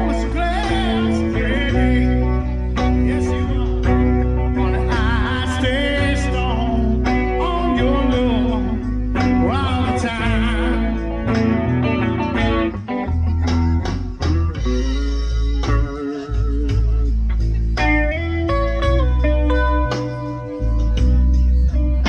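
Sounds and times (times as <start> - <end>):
deep bass notes: 0.0 - 22.0
electric guitar lead with vibrato: 0.0 - 22.0
second guitar: 0.0 - 22.0.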